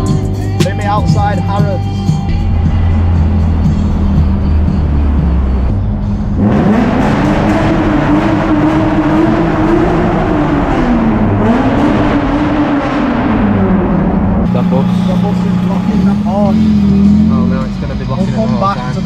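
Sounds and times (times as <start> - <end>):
car engine revving in a tunnel: 2.2 - 19.0.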